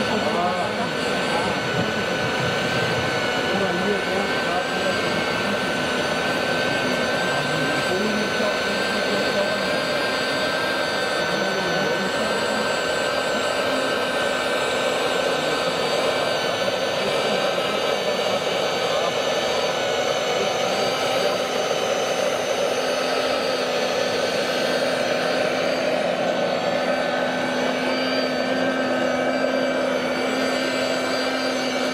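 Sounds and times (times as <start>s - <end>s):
suction fan whirring whine: 0.0s - 31.9s.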